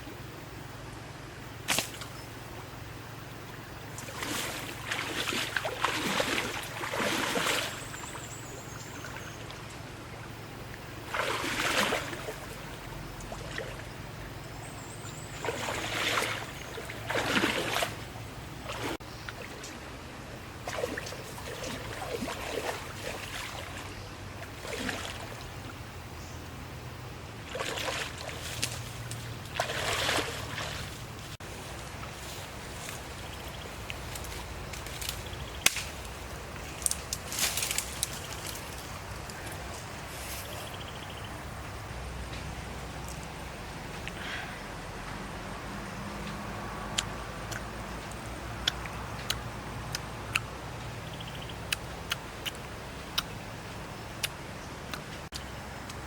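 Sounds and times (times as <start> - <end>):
water splashing and trickling: 1.6 - 56.0.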